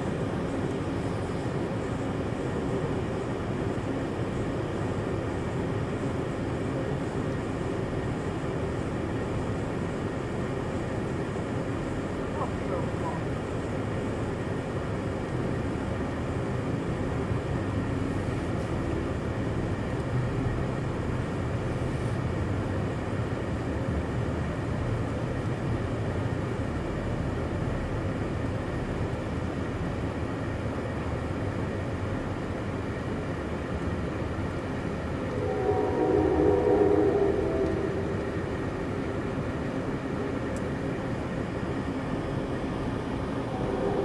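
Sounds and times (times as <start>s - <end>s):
train running noise from inside: 0.0s - 44.0s.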